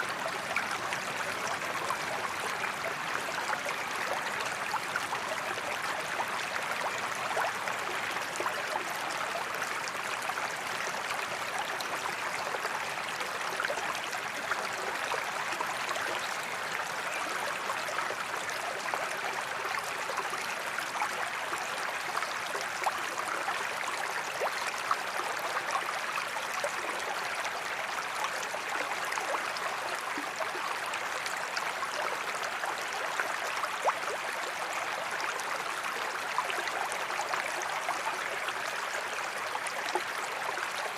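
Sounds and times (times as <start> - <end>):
creek flowing over stones: 0.0 - 40.9.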